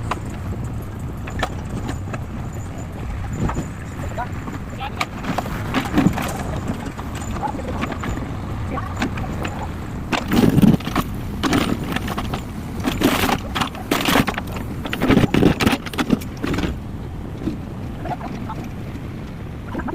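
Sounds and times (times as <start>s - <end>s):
backhoe loader engine running: 0.0s - 19.9s.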